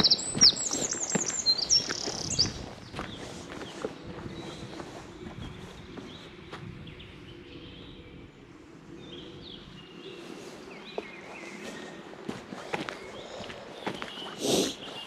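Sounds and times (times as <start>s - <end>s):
songbirds chirping: 0.0s - 15.0s
low rumbling background noise: 1.4s - 14.3s.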